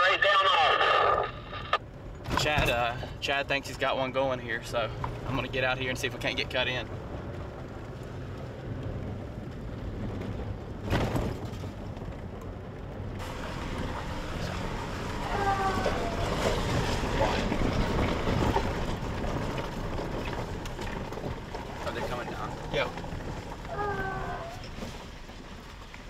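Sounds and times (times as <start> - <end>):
car engine and tyres on gravel: 1.8 - 26.0.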